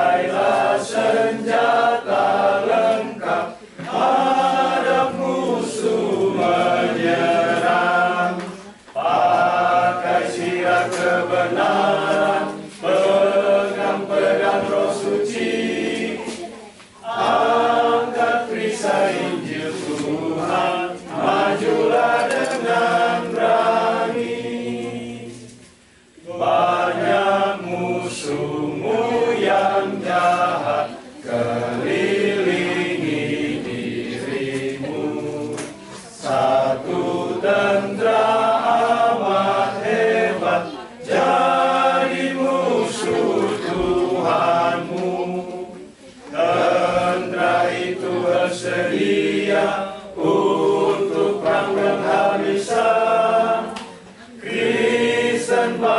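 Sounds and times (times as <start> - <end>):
men singing a hymn unaccompanied: 0.0 - 16.4, 17.0 - 25.6, 26.2 - 55.9.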